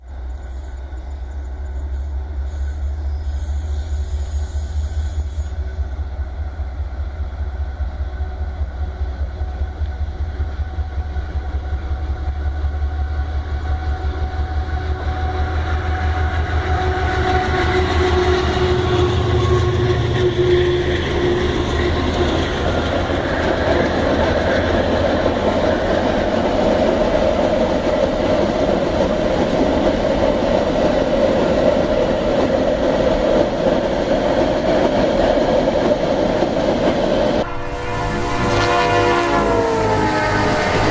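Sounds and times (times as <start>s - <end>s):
diesel locomotive engine rumble: 0.0s - 40.9s
rail and wheel noise: 0.0s - 40.9s.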